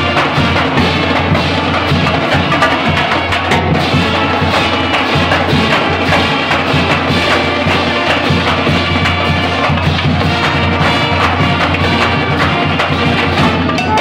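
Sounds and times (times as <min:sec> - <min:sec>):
brass and saxophones: 0:00.0 - 0:14.0
marching drumline: 0:00.0 - 0:14.0
pep band playing: 0:00.0 - 0:14.0.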